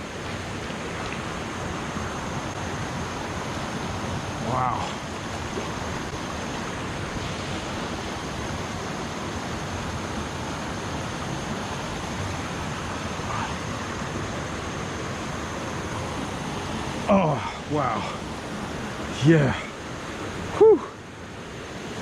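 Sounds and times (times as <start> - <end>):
river water rushing over dam: 0.0 - 22.0.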